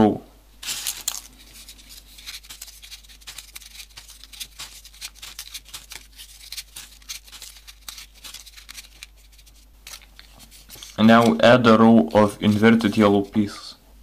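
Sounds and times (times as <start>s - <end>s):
paper pieces clicking together: 0.6s - 11.4s, 12.2s - 13.3s
paper rustling: 0.6s - 13.5s.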